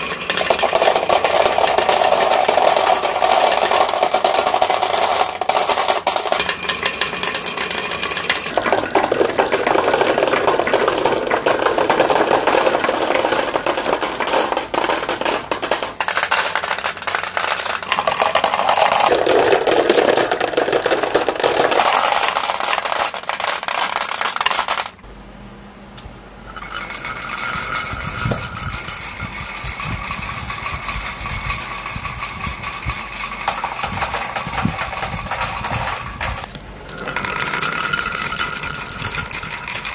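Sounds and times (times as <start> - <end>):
marbles rattling on wooden tracks: 0.0 - 25.0, 26.6 - 39.9.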